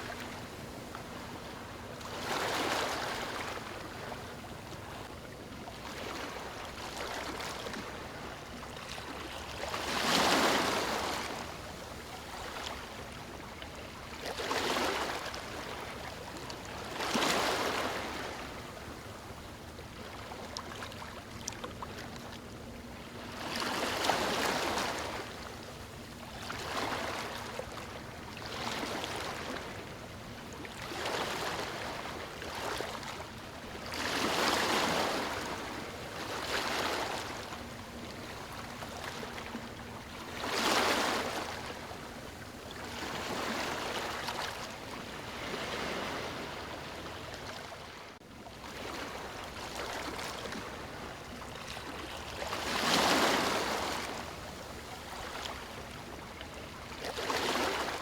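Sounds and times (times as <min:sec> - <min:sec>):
small waves washing: 0:05.7 - 0:58.0.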